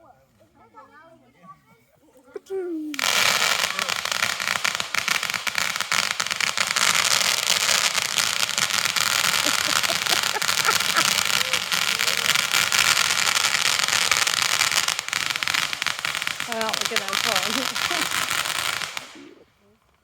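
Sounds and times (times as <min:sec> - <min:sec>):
fireworks crackling: 0:02.5 - 0:20.0.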